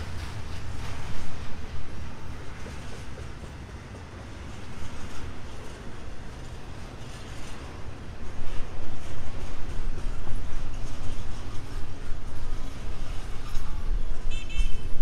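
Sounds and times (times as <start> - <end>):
train wheels clacking on rails: 0.0 - 15.0.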